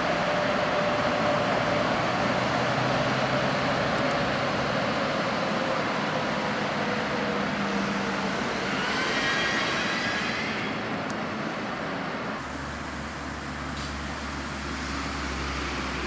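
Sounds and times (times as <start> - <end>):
rumble of city and rail traffic: 0.0 - 16.0.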